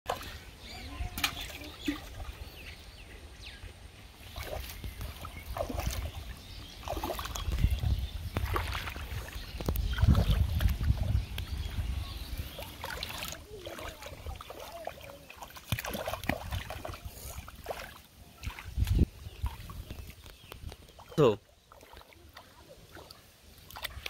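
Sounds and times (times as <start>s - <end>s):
bare feet wading through water: 0.0s - 2.8s, 4.1s - 24.0s.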